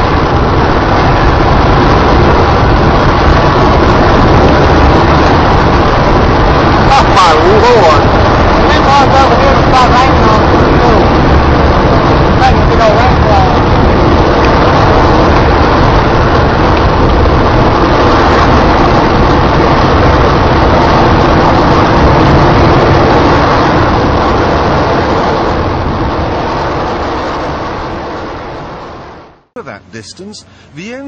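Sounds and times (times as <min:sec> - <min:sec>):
rocket engine roaring: 0:00.0 - 0:31.0.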